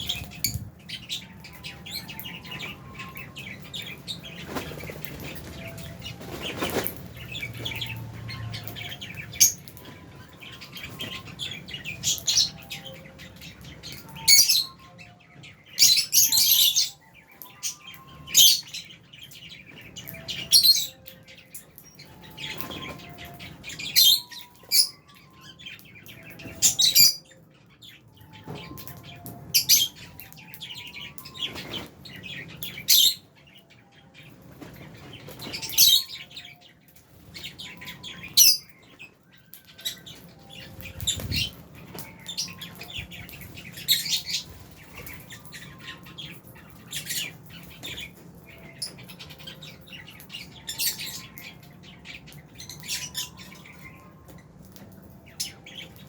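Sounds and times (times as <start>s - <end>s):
lovebirds chirping: 0.0s - 56.0s.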